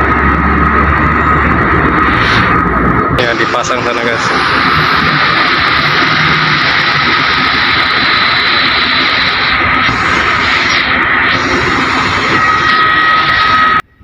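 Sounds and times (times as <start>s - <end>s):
crane machinery drone: 0.0s - 14.0s
high-pitched whine: 0.0s - 14.0s.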